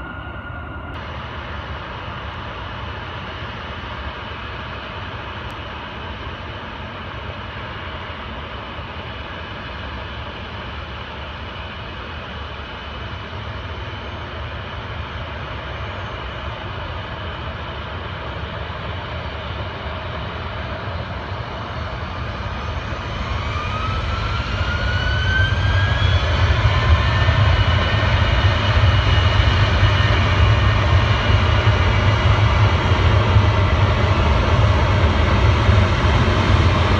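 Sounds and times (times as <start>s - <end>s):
deep jet engine rumble: 0.0s - 36.9s
jet engine whine: 0.0s - 36.9s.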